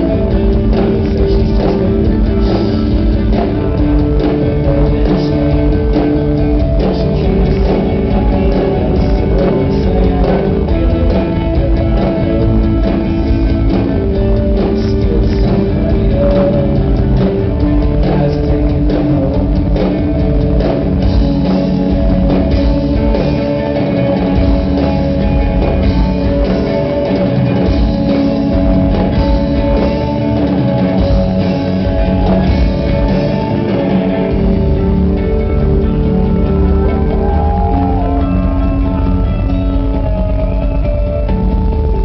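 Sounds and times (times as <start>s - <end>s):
rock band playing live: 0.0s - 42.0s.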